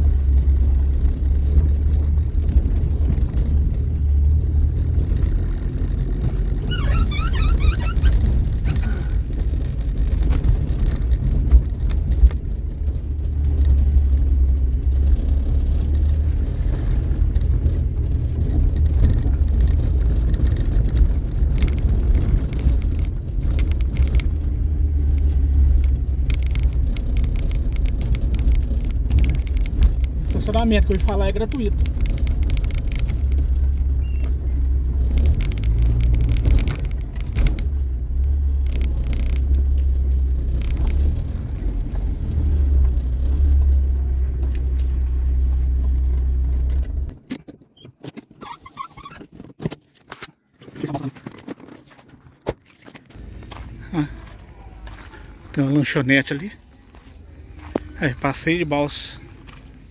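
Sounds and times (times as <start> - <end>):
knocks and rattles: 0.0 - 48.4
car rumbling on dirt road: 0.0 - 49.6, 50.6 - 59.9.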